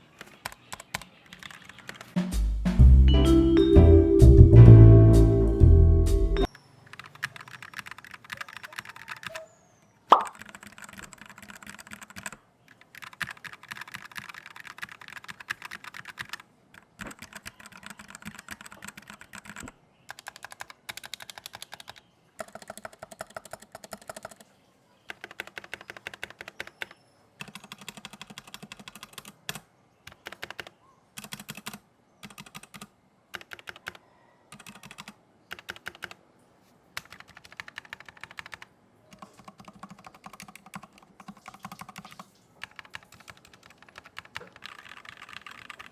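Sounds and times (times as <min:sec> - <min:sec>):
fast typing on mechanical keyboard: 0:00.1 - 0:02.2, 0:06.8 - 0:09.4, 0:10.2 - 0:24.4, 0:25.1 - 0:36.2, 0:37.0 - 0:45.9.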